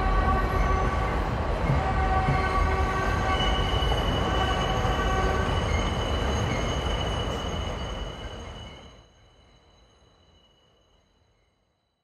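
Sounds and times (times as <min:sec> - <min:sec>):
subway train rumble: 0:00.0 - 0:10.2.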